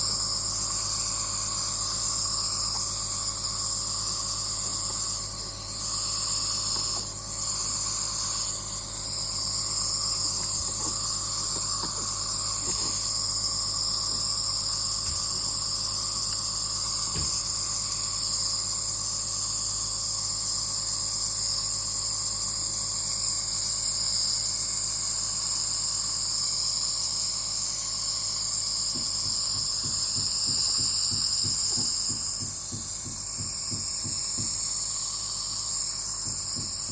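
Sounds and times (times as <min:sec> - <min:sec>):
nebuliser motor hum: 0:00.0 - 0:36.9.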